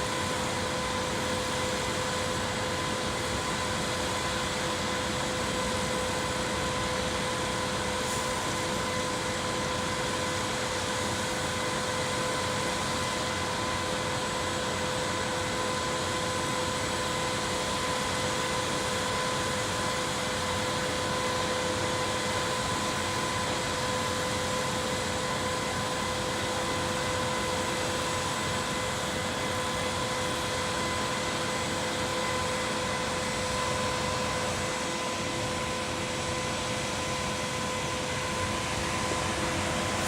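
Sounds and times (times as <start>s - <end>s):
high machine whine: 0.0s - 40.0s.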